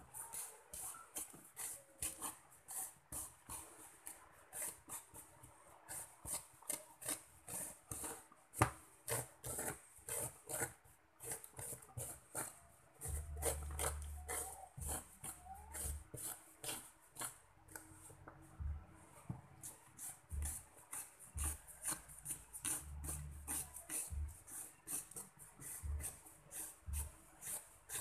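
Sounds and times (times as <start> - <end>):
knife scraping fruit flesh: 0.1 - 18.7, 19.5 - 28.0.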